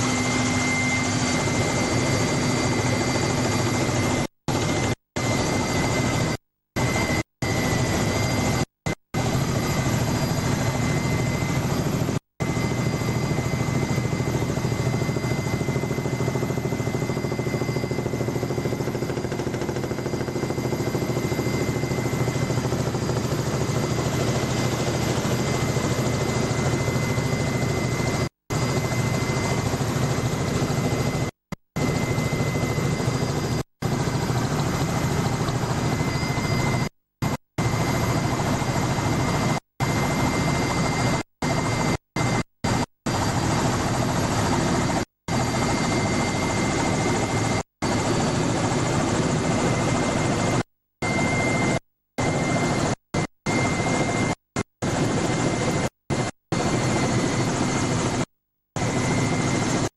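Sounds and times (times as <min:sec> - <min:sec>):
helicopter rotor and turbine drone: 0:00.0 - 0:59.9.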